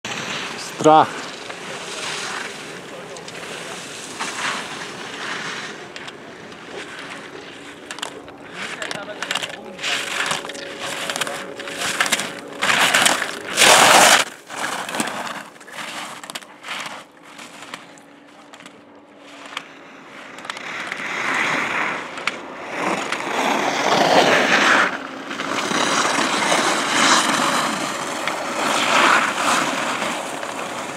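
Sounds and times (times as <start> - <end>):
skis scraping on snow: 0.1 - 30.9.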